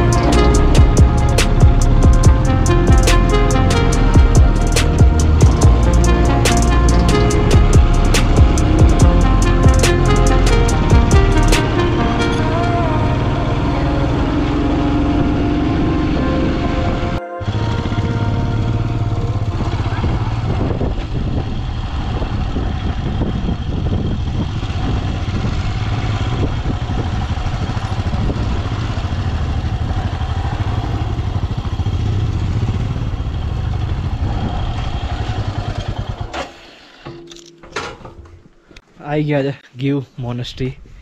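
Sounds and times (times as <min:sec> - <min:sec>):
motorcycle engine running: 0:00.0 - 0:36.4.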